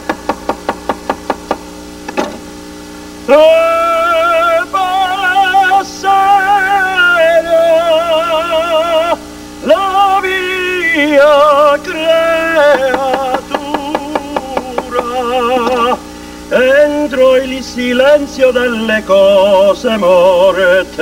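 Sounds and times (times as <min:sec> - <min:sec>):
man singing operatically: 0:03.2 - 0:21.0.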